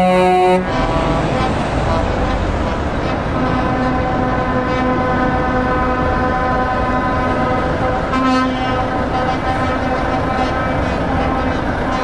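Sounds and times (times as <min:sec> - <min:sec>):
lorry air horn: 0:00.0 - 0:02.5, 0:03.4 - 0:12.0
diesel truck engines running: 0:00.0 - 0:12.0.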